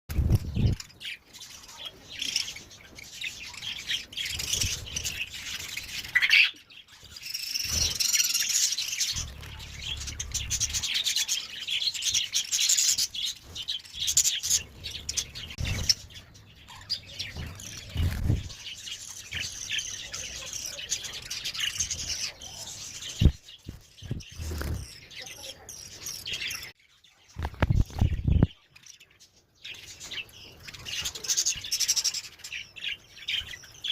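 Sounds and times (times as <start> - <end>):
parrot chirping and tweeting: 0.1 - 33.9.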